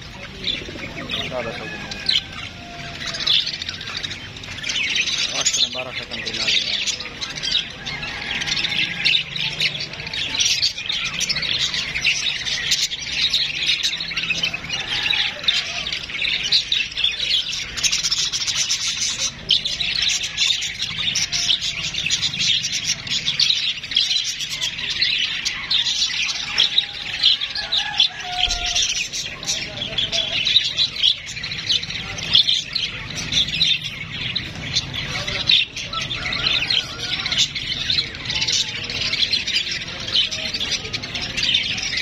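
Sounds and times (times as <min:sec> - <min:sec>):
budgerigars chattering: 0:00.0 - 0:42.0.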